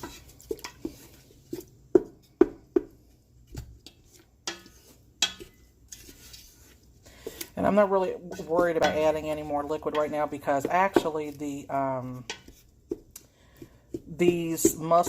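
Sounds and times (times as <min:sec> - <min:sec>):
spoon scraping cooking pot: 0:00.0 - 0:01.7, 0:03.8 - 0:15.0.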